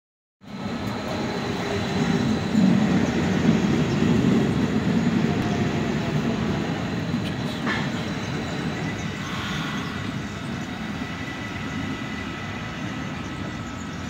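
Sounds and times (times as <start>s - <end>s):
train wheels rumbling on rails: 0.4s - 14.0s.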